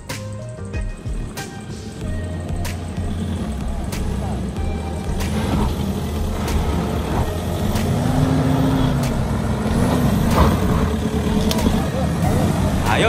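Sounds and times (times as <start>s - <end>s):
sharp ticks: 0.0s - 12.0s
vehicle engine revving: 0.0s - 13.0s.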